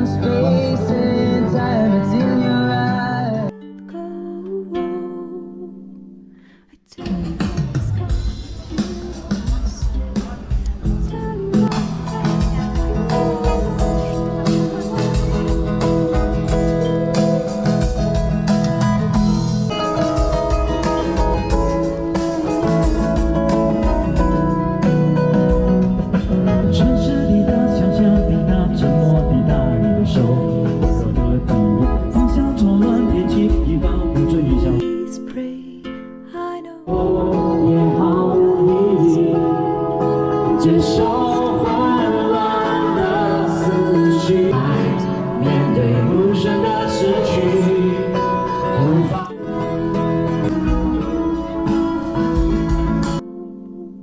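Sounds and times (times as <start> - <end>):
live band playing guitar-led music: 0.0 - 4.0, 7.0 - 36.3, 36.9 - 54.0
person singing: 0.0 - 53.2.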